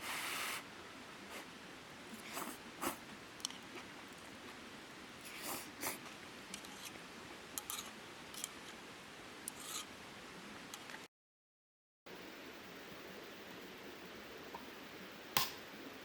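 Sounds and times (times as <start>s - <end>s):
steady hiss: 0.0s - 11.0s, 12.1s - 16.0s.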